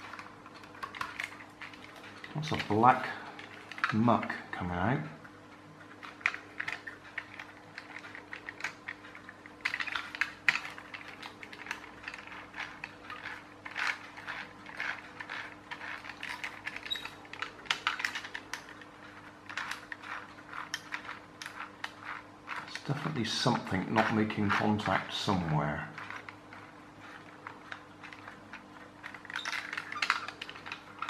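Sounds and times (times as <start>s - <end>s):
plastic gears clicking and ratcheting: 0.0s - 5.0s, 5.9s - 31.0s.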